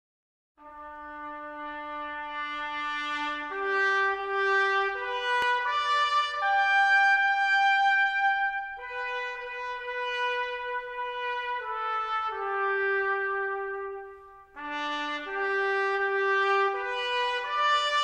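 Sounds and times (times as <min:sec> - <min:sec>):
slow brass melody: 0:00.6 - 0:18.0.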